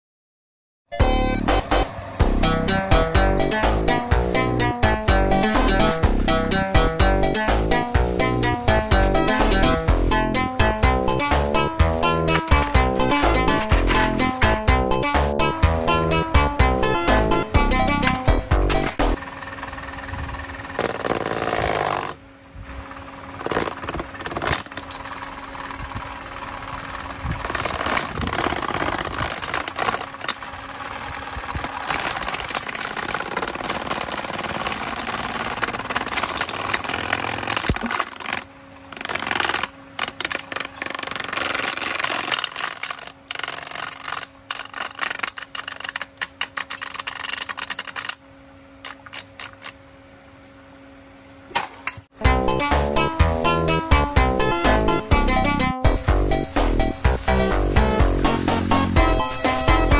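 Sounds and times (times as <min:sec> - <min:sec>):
fan motor humming: 0:01.0 - 0:59.9.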